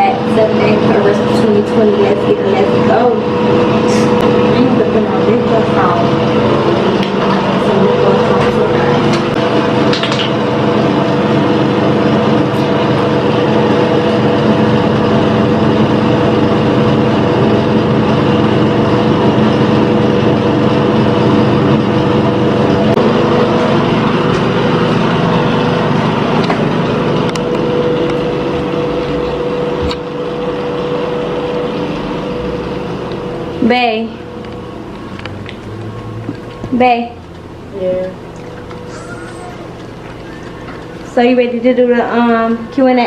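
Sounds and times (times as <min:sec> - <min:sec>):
steady mechanical drone: 0:00.0 - 0:43.0.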